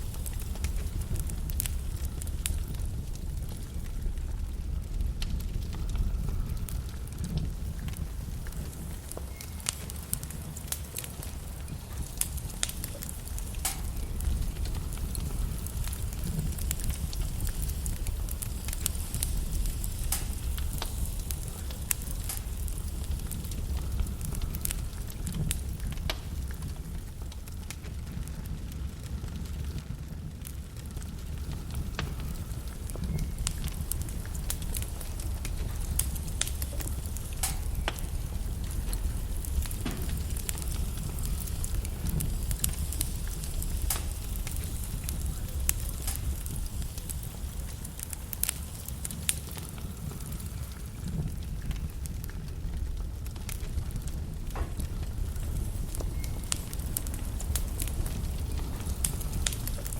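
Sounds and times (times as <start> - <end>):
logs crackling in a fireplace: 0.0 - 59.9
low rumble of flames: 0.0 - 59.9.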